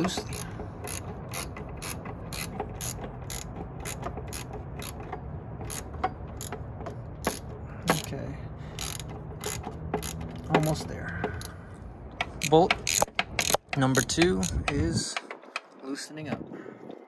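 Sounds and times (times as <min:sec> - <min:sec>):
ratchet wrench clicking: 0:00.0 - 0:15.7.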